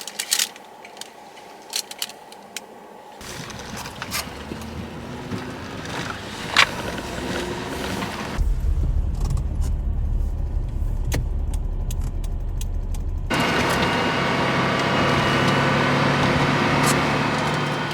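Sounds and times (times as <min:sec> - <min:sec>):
road noise: 0:02.9 - 0:17.9
car engine rumble: 0:03.2 - 0:17.9.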